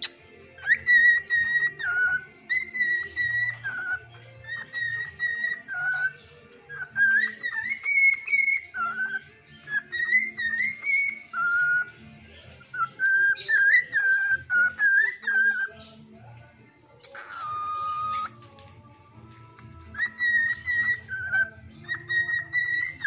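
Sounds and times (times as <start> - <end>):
songbird whistling melody: 0.0 - 23.0.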